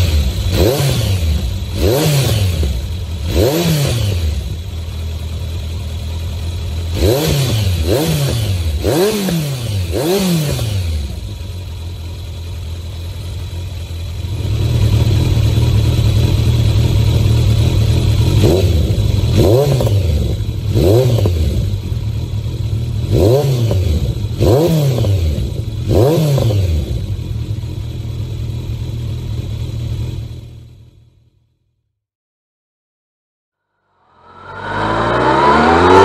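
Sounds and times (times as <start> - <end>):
motorcycle engine idling: 0.0 - 31.7.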